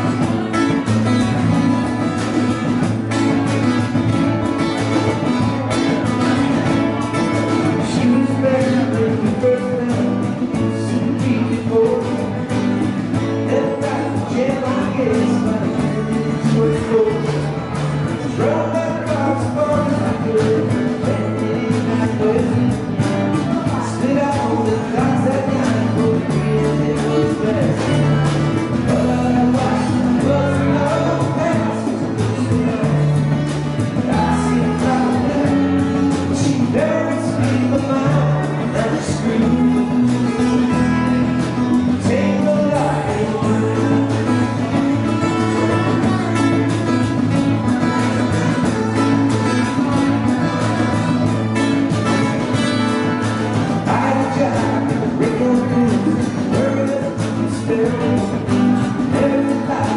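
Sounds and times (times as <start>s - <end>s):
electric bass notes: 0.0s - 59.9s
man singing into a microphone: 0.0s - 59.9s
strummed acoustic guitars: 0.0s - 59.9s.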